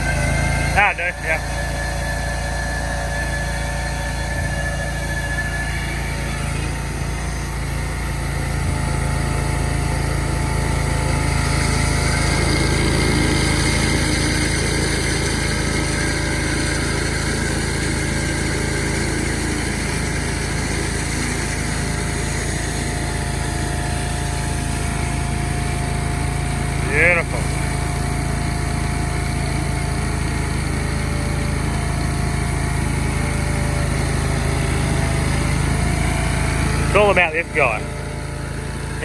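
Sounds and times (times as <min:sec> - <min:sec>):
small petrol engine running: 0:00.0 - 0:39.0.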